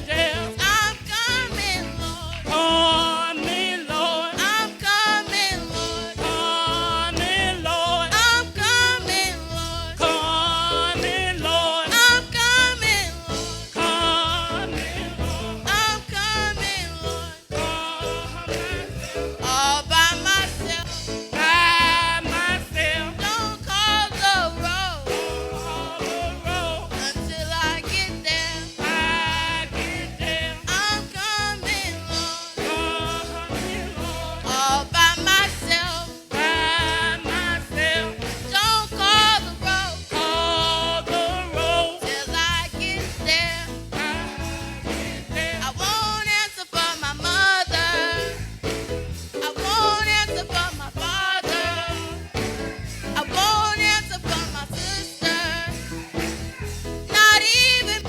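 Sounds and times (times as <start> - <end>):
gospel singing with vibrato: 0.0 - 58.0
instrumental backing with beat: 0.0 - 58.0.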